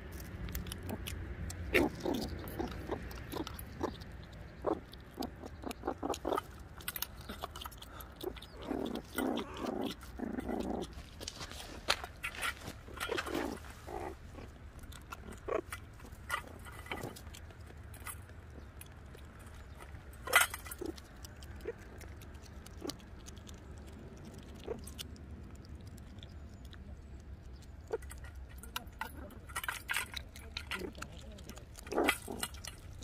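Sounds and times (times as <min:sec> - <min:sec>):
animals chewing with crunches: 0:00.0 - 0:33.0.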